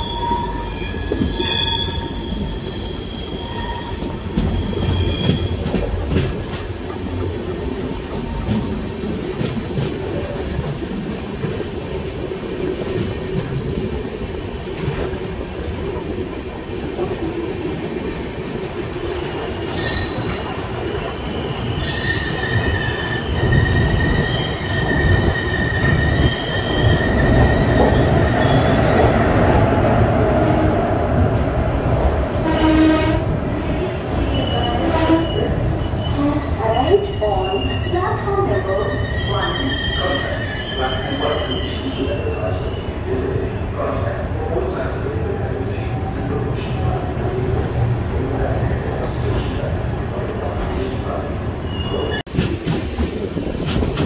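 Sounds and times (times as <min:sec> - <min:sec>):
wheels squealing on rail: 0:00.0 - 0:10.8, 0:12.8 - 0:15.4, 0:17.2 - 0:17.7, 0:18.6 - 0:29.2, 0:32.4 - 0:47.8, 0:48.4 - 0:52.3
train wheels rumbling: 0:00.0 - 0:54.0.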